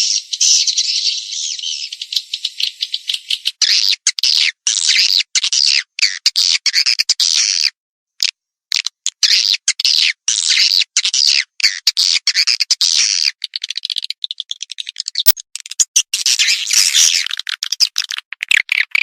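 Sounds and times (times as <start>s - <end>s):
high twittering bird chirps: 0.0s - 7.4s, 9.2s - 19.0s.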